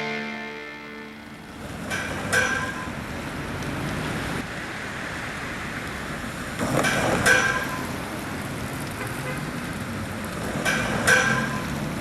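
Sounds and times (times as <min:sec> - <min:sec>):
road noise rushing: 0:00.0 - 0:12.0.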